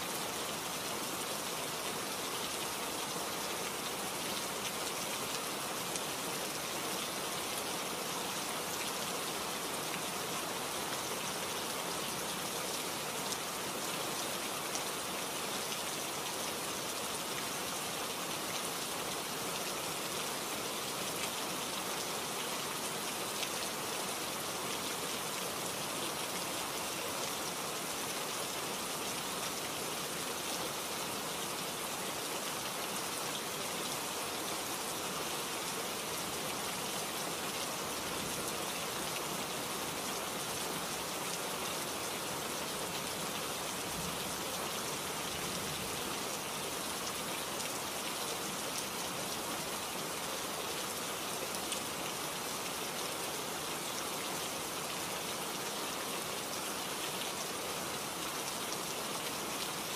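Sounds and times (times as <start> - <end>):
steady rain-like hiss: 0.0 - 59.9.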